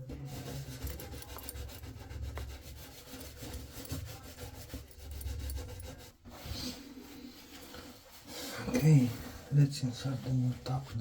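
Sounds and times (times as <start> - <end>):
rubbing and rasping strokes: 0.2 - 9.0.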